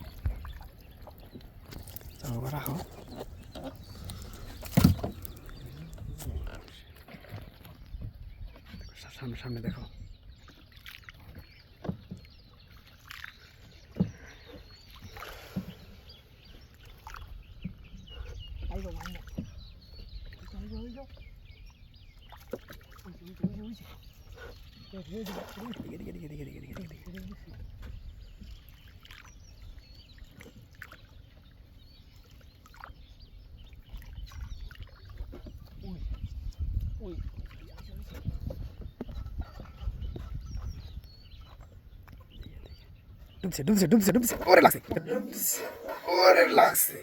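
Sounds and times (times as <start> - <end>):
paddle splashing water: 0.0 - 9.0, 10.2 - 40.8, 41.4 - 47.0.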